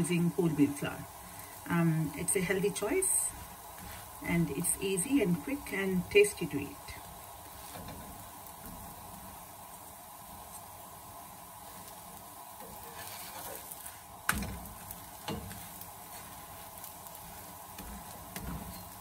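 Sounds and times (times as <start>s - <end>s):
flatbread sizzling on a griddle: 0.0s - 19.0s.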